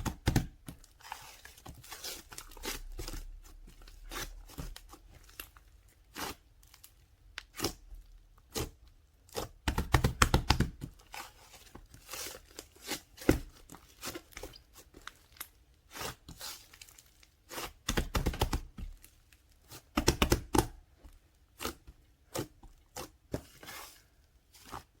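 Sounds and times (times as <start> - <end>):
crinkling and crackling when squeezed: 0.0 - 25.0.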